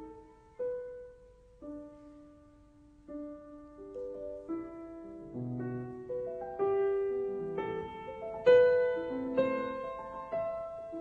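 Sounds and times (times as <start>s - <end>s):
solo piano playing: 0.0s - 11.0s.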